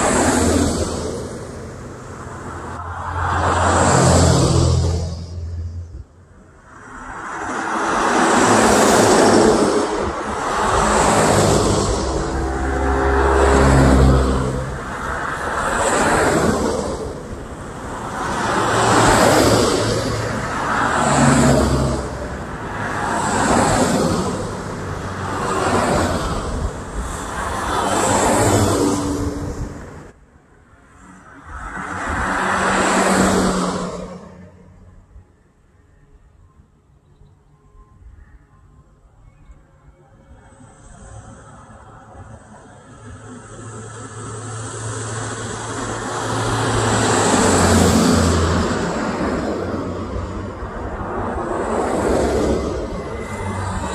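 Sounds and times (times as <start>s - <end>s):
vehicles passing close by: 0.0s - 53.9s.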